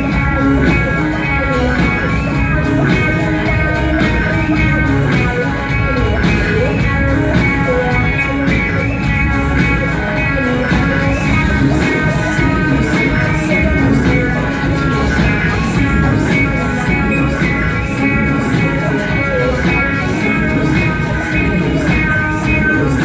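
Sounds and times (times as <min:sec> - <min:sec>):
live band music with guitar: 0:00.0 - 0:23.0.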